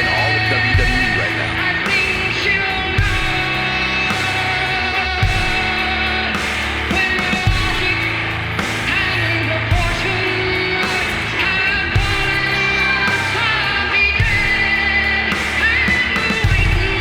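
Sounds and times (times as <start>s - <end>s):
rock music with singing: 0.0s - 17.0s.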